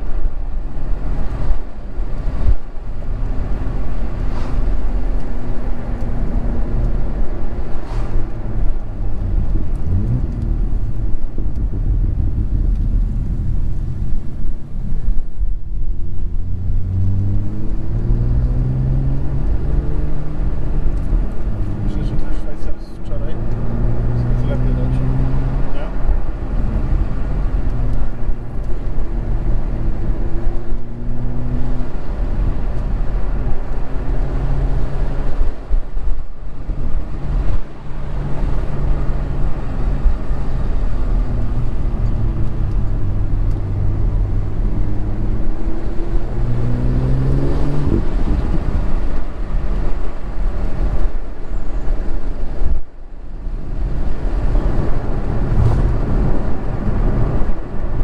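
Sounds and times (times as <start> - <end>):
car engine and exhaust revving: 0.0 - 58.0
road rumble: 0.0 - 58.0.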